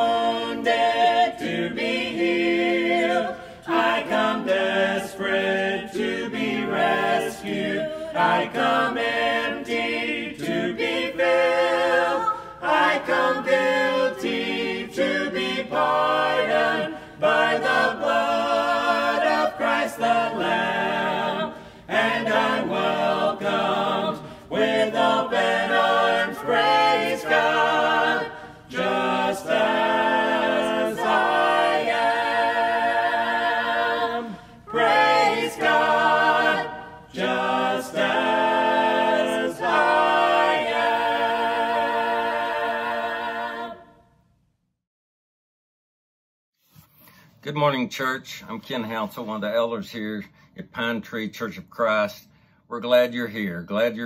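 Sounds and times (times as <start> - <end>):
choir singing a hymn: 0.0 - 44.1.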